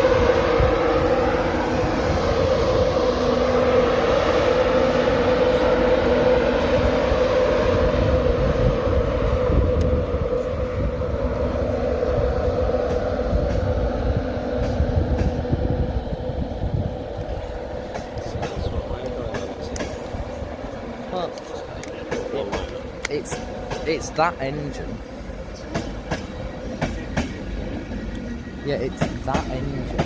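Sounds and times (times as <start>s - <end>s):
train hum and rumble: 0.0s - 30.0s.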